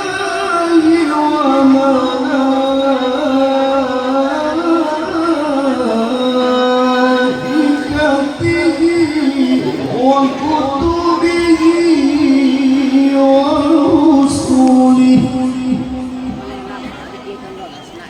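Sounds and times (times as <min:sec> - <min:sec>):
man reciting melodically: 0:00.0 - 0:17.6.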